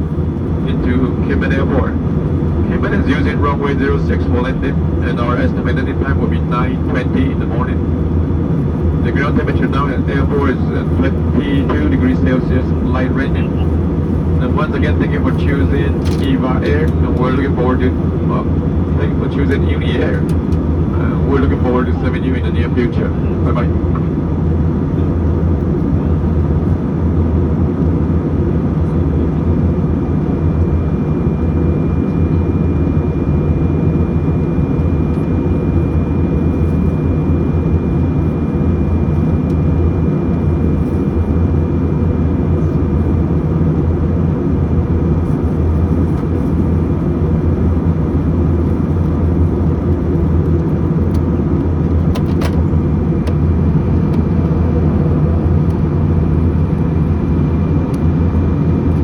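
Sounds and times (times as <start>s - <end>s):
engine and airflow hum: 0.0s - 59.0s.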